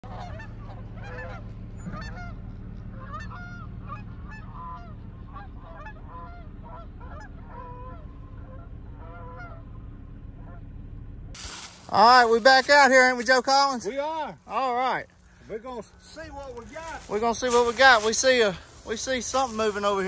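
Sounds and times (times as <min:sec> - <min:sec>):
geese honking: 0:00.0 - 0:10.8, 0:11.7 - 0:20.0
low hum: 0:00.0 - 0:20.0.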